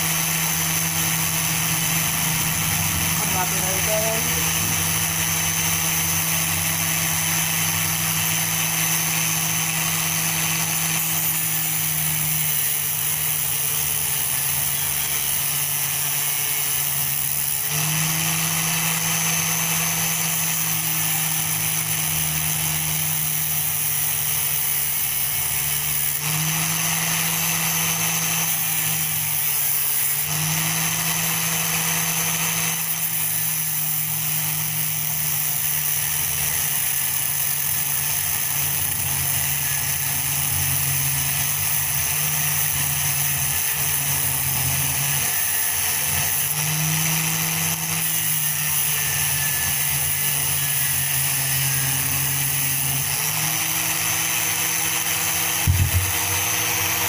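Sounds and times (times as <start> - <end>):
angle grinder cutting metal can: 0.0 - 57.0.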